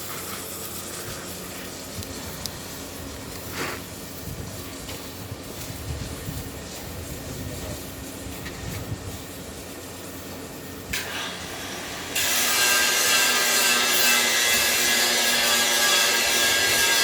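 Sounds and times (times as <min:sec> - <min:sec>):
loud steady hiss: 0:00.0 - 0:17.0
welding equipment rumble: 0:00.0 - 0:17.0.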